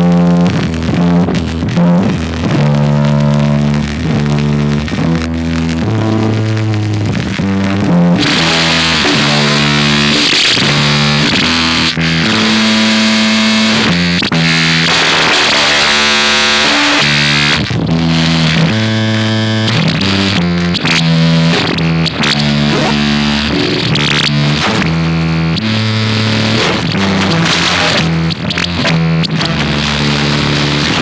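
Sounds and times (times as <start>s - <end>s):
harsh distorted noise music: 0.0s - 31.0s.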